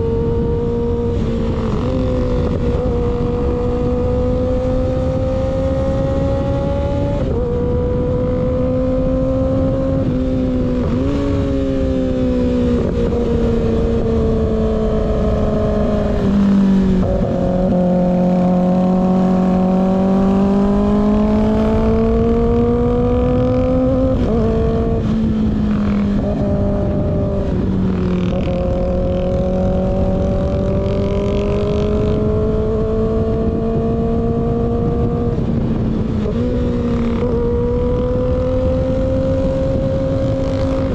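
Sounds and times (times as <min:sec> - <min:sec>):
motorcycle engine revving: 0:00.0 - 0:40.9
wind rush: 0:00.0 - 0:40.9.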